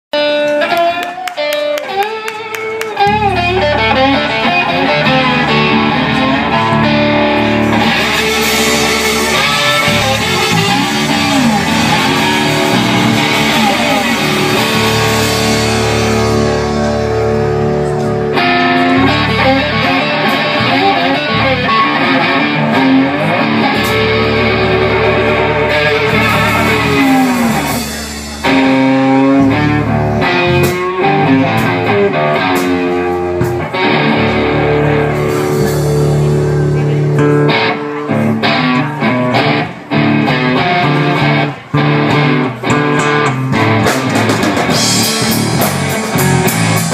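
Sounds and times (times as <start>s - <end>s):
drum kit: 0.2s - 46.9s
slide resonator guitar: 0.2s - 46.9s
electric bass: 1.6s - 46.9s.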